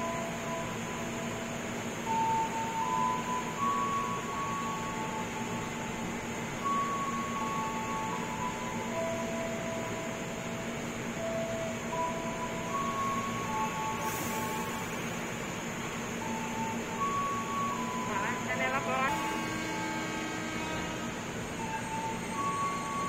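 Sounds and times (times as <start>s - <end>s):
electric train humming: 0.0s - 23.0s.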